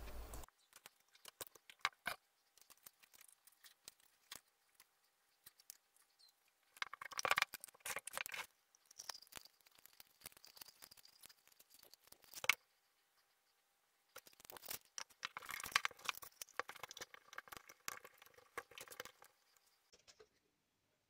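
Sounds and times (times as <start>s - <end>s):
wires rustling against plastic jar: 0.4s - 13.5s, 14.1s - 20.4s.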